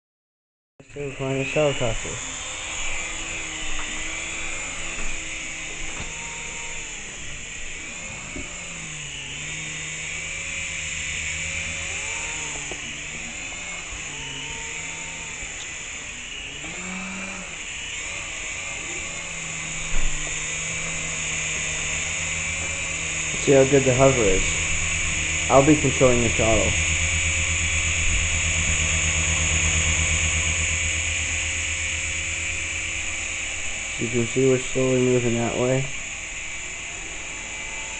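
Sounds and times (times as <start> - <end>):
rc helicopter motor whine: 0.8 - 37.9.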